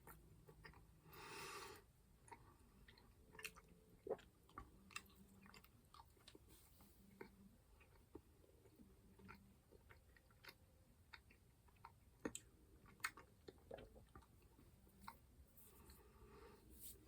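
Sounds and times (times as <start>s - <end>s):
chewing gummy sweets: 0.0s - 1.0s, 2.2s - 16.0s.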